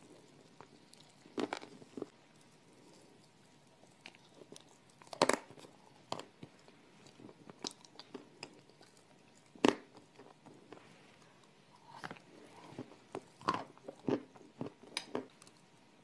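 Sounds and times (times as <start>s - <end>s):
person chewing crunchy food: 0.0s - 15.7s.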